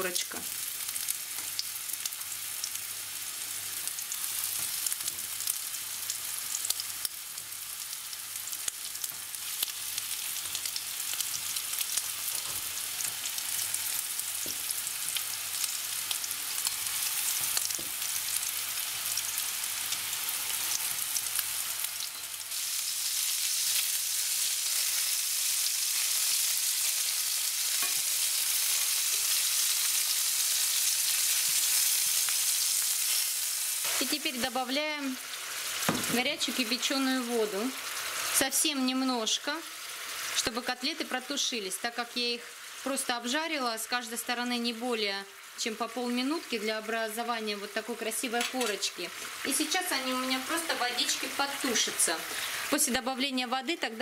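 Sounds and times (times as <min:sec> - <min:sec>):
cutlets frying in hot oil: 0:00.0 - 0:54.0.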